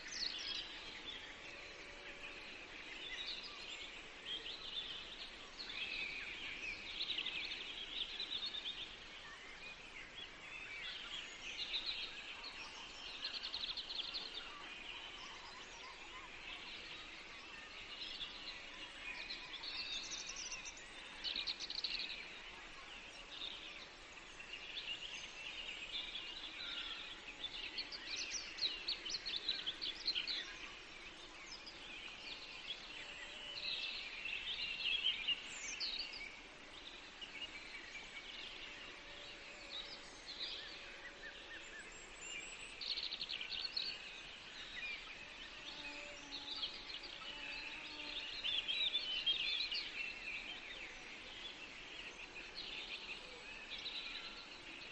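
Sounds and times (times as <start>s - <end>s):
soft steady background hiss: 0.0s - 54.9s
songbirds chirping and trilling: 0.0s - 54.9s.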